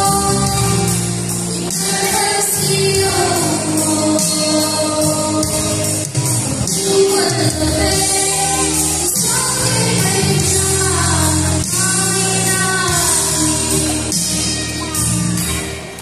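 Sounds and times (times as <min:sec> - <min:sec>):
girl singing into a microphone: 0:00.0 - 0:06.1, 0:06.7 - 0:15.6
instrumental accompaniment: 0:00.0 - 0:16.0.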